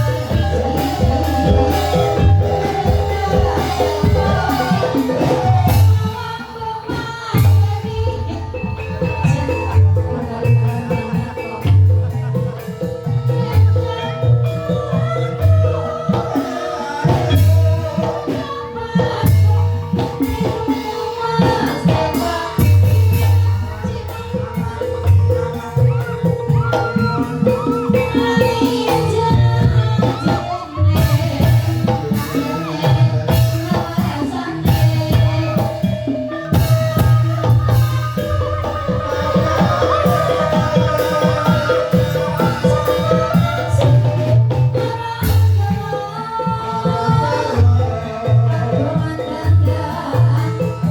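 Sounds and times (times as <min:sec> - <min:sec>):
drum beats: 0:00.0 - 0:50.9
person singing: 0:00.0 - 0:50.9.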